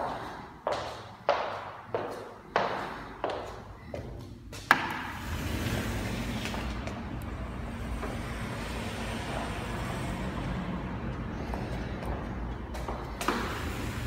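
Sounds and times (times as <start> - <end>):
distant road traffic: 0.0 - 14.0.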